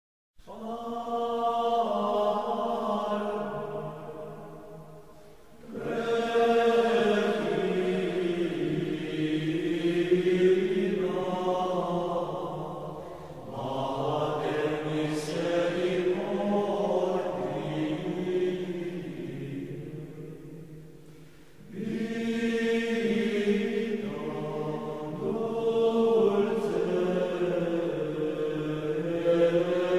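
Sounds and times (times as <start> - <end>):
plainchant singing: 0.4 - 20.9, 21.6 - 29.9.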